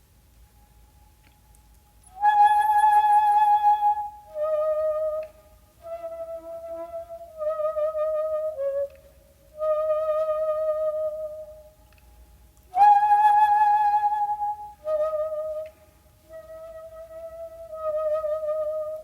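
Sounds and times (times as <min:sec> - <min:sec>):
bamboo flute playing long notes: 0:02.0 - 0:12.0, 0:12.7 - 0:19.0.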